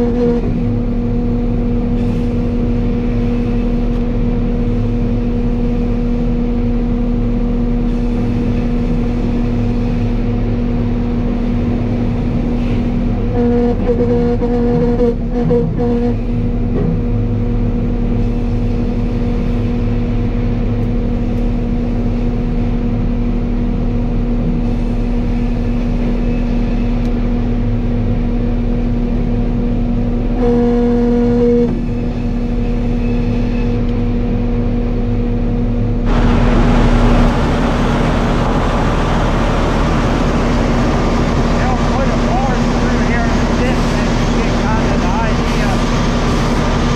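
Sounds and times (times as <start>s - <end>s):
sawmill machinery running: 0.0s - 15.3s, 16.1s - 46.9s
constant hum: 0.0s - 46.9s.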